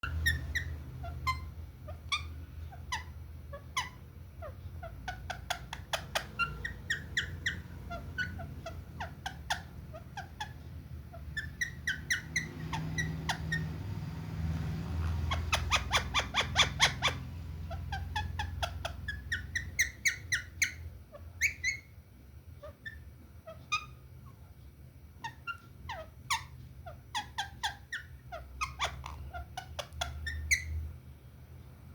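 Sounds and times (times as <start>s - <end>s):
low steady hum: 0.0s - 31.9s
small birds chirping: 0.0s - 31.9s.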